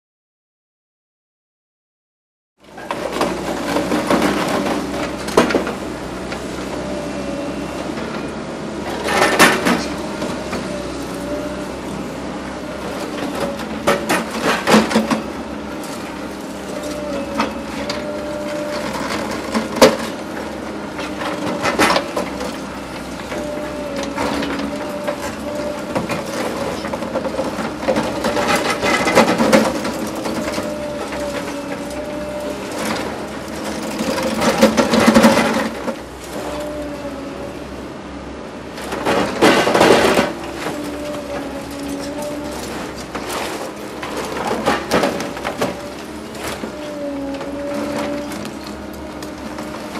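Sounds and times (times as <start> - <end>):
excavator engine and hydraulics whine: 2.6 - 49.9.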